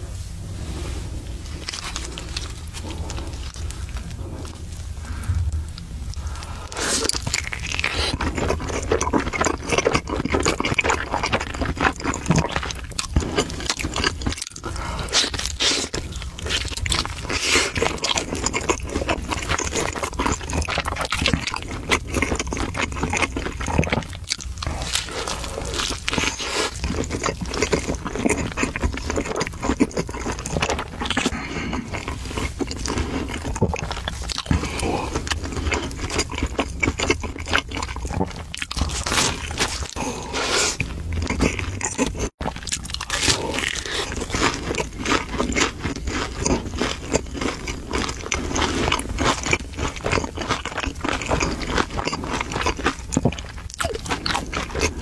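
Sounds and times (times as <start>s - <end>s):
pizza crust crunching: 1.6s - 55.0s
wet chewing mouth sounds: 1.6s - 55.0s.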